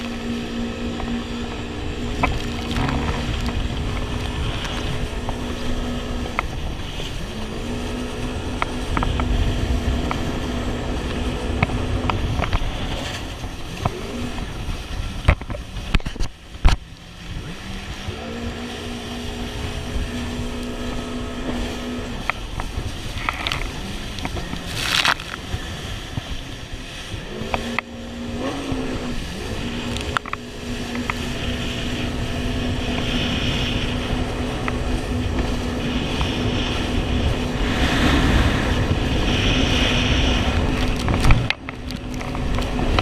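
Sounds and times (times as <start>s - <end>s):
jet ski engine: 0.0s - 43.0s
rush of wind and water: 0.0s - 43.0s.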